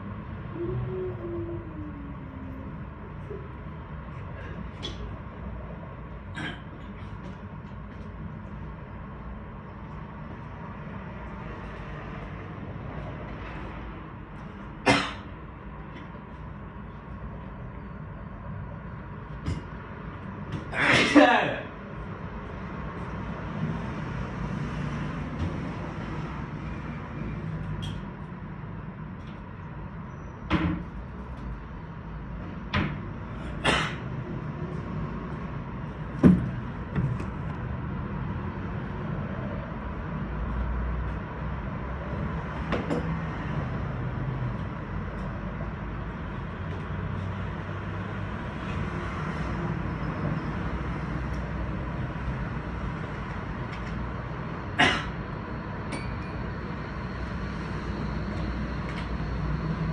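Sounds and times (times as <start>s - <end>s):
cars driving rumble: 0.0s - 59.9s.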